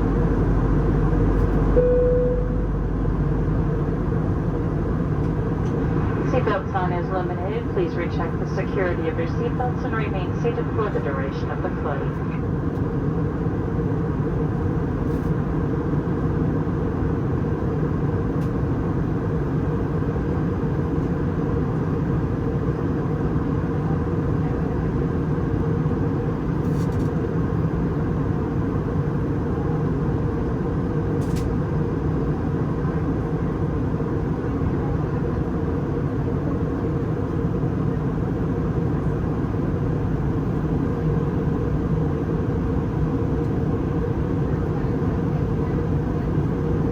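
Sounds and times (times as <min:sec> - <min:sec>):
aircraft engines rumbling: 0:00.0 - 0:46.9.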